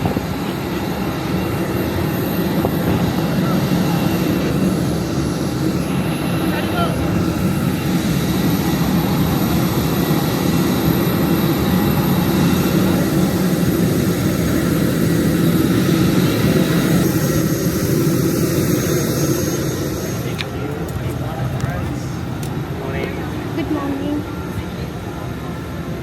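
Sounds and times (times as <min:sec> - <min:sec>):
jet engine rumble and whine: 0:00.0 - 0:26.0.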